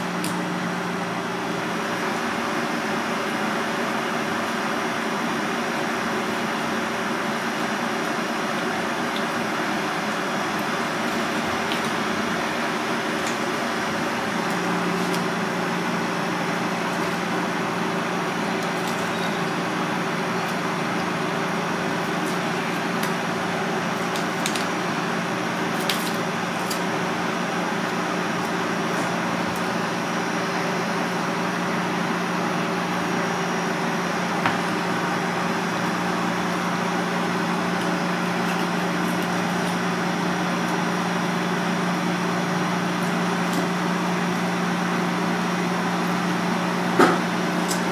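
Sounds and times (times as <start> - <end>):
machine hum with rushing noise: 0.0 - 47.9.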